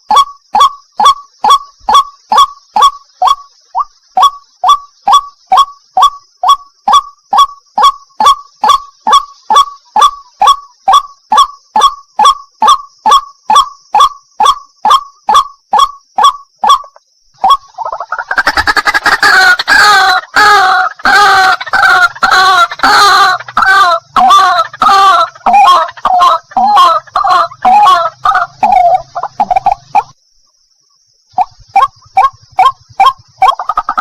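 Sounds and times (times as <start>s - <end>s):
rapid repeated croaking calls: 0.0s - 34.0s.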